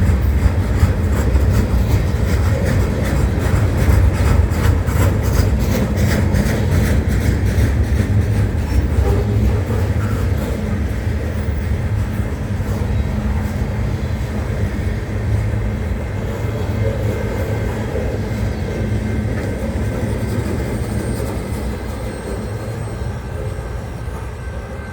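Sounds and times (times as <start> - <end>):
freight train wheels rumbling: 0.0 - 24.9.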